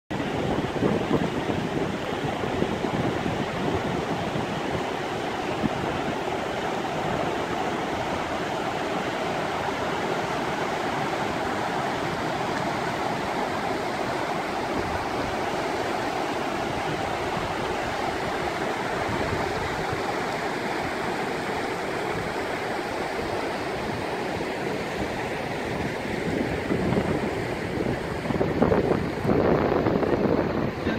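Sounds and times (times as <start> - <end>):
river rushing over rocks: 0.1 - 30.9.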